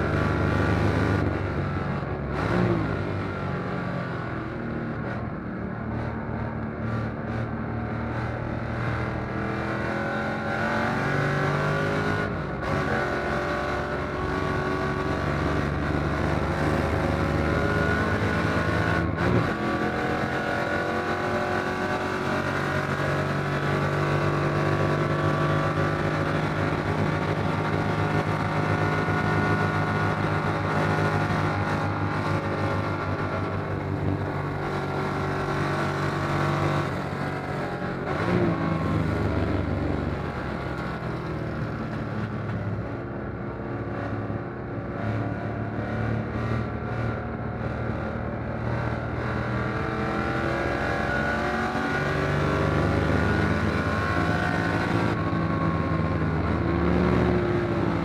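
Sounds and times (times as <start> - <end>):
racing car engine revving: 4.9 - 58.0.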